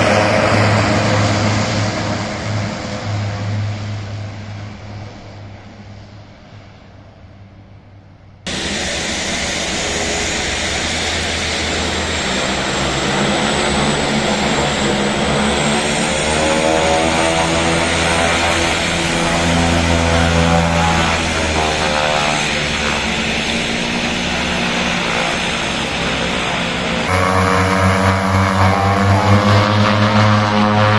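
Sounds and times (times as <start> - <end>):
turboprop aircraft propeller drone: 0.0 - 30.9.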